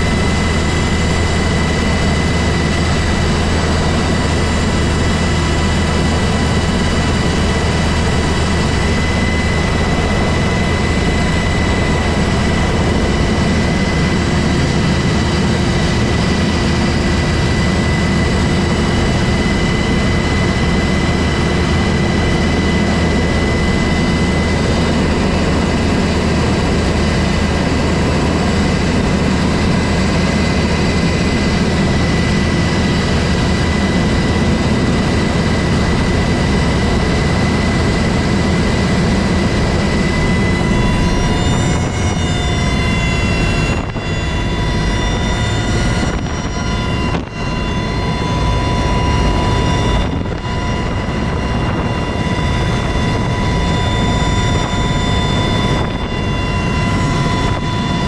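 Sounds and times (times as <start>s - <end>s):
helicopter rotor rumble: 0.0s - 58.0s
helicopter turbine whine: 0.0s - 58.0s.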